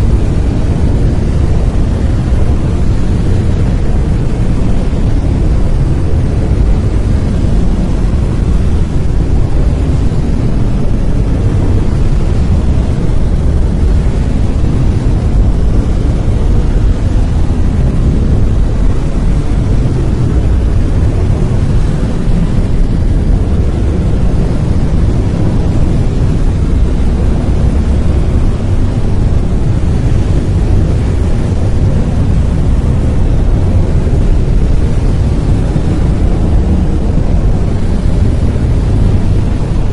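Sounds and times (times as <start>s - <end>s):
deep rumbling hiss: 0.0s - 39.9s.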